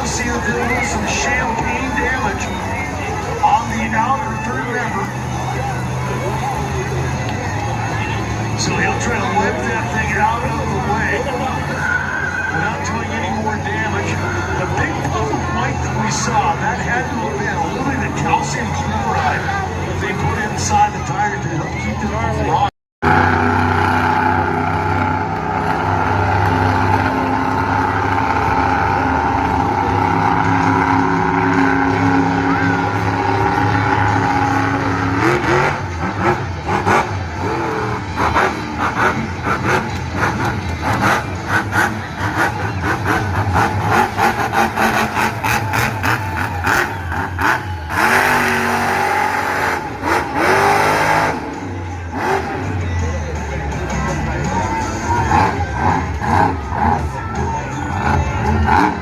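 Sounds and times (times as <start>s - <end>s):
monster truck engine running: 0.0s - 59.0s.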